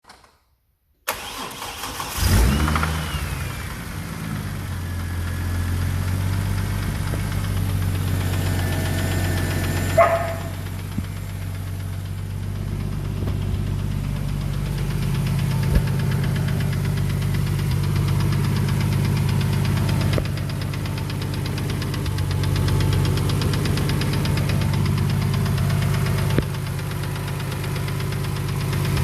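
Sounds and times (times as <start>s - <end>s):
car engine cranking and idling: 1.1s - 29.0s
engine ticking: 1.2s - 29.0s.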